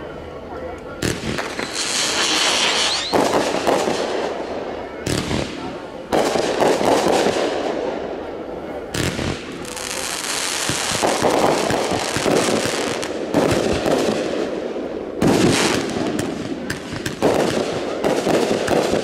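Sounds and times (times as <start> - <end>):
firework booms: 1.0 - 19.0
firework crackling: 1.0 - 19.0.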